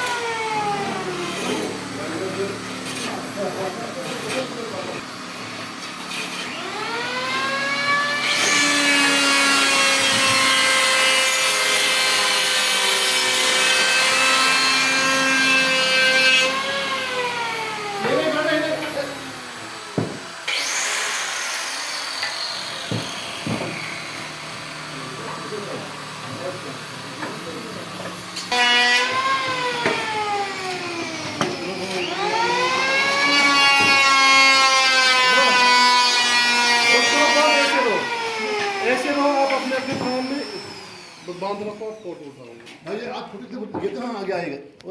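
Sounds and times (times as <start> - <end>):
power tool whine: 0.0 - 42.2
power tool cutting wood: 0.0 - 42.4.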